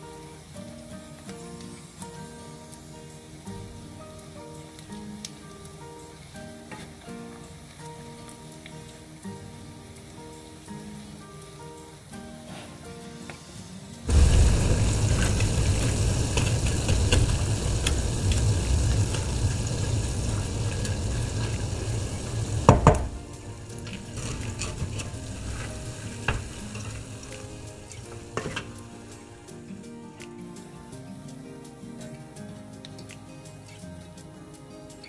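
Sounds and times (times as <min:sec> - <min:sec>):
chicken skins sizzling in oil: 0:00.0 - 0:30.7.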